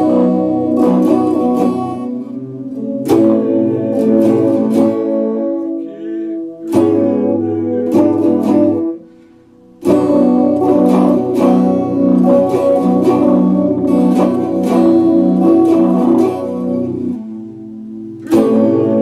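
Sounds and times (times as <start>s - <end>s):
electric guitar strumming chords: 0.0s - 19.0s.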